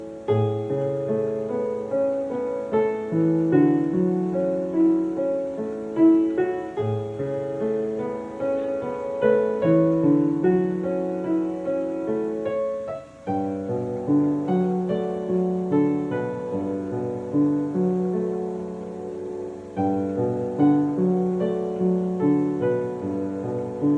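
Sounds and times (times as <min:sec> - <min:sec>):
gentle piano music: 0:00.0 - 0:23.9.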